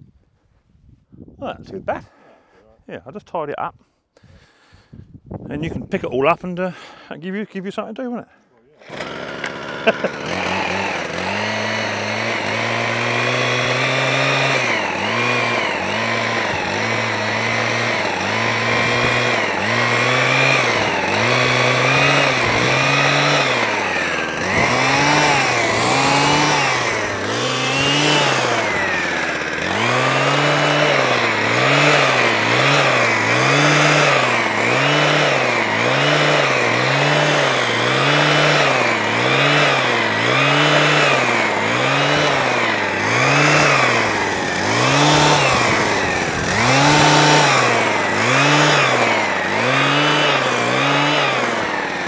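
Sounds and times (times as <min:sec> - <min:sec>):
hedge trimmer engine revving: 0:08.7 - 0:52.0.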